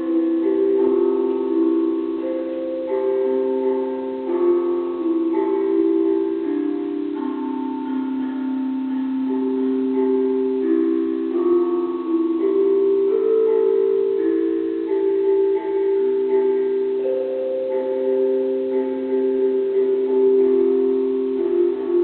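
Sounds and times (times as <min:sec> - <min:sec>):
tuned percussion slow melody: 0:00.0 - 0:22.0.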